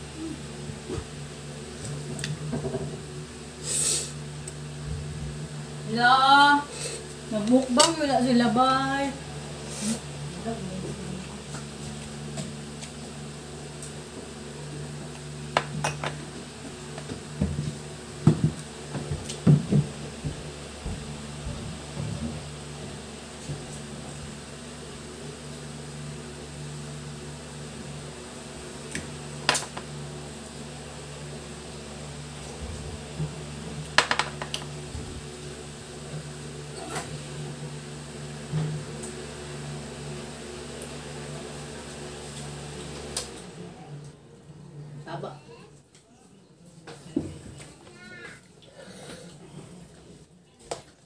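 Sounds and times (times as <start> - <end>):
steady low hum: 0.0 - 47.8.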